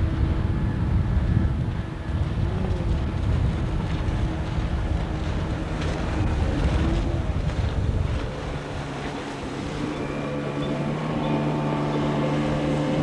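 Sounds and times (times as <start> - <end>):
boat motor running: 0.0 - 13.0
wind buffeting microphone: 0.0 - 13.0.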